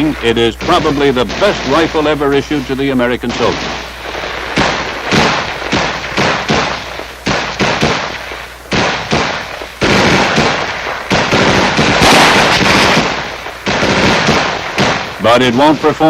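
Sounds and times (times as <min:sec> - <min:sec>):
rifle gunshots: 0:00.0 - 0:16.0.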